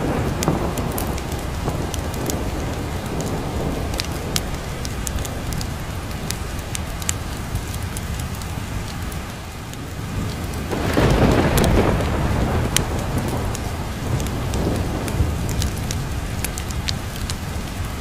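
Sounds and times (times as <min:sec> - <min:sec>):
thunder rolling: 0:00.0 - 0:08.4, 0:09.8 - 0:17.8
steady rain: 0:00.0 - 0:18.0.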